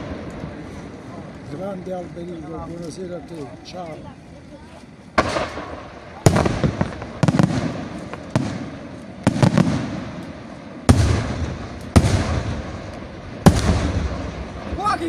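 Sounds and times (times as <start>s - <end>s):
firework bangs with rumbling echo: 0.0s - 2.6s, 5.1s - 15.0s.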